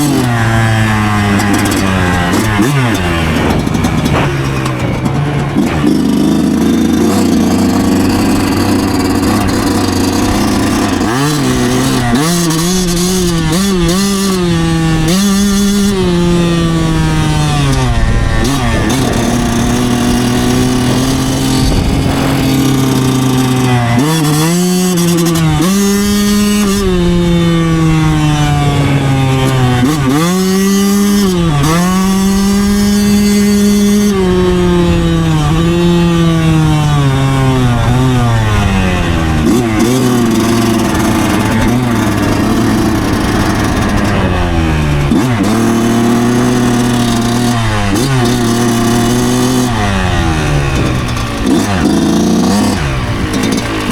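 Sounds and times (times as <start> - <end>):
two-stroke engine revving: 0.0 - 53.9.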